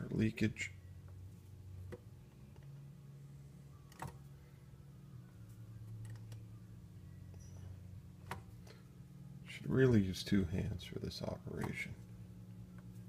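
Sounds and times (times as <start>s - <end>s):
faint low electrical hum: 0.0s - 13.0s.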